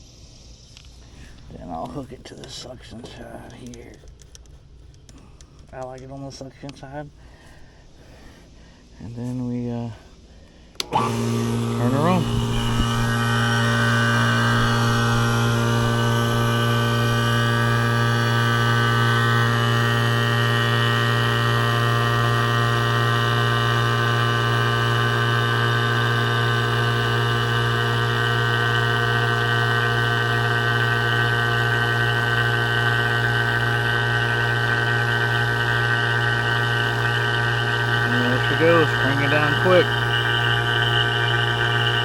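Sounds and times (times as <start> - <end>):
vacuum pump humming: 0.7 - 42.0.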